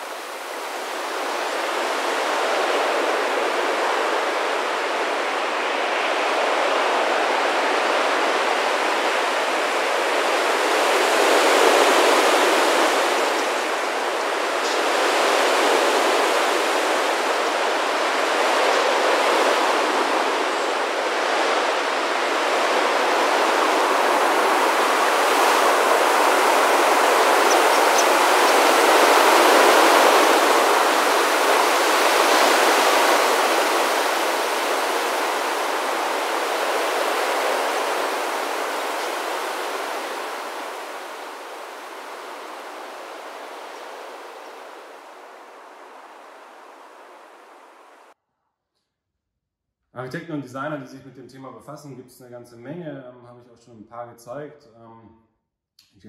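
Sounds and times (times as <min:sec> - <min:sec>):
starling flock wingbeats whoosh: 0:00.0 - 0:45.6.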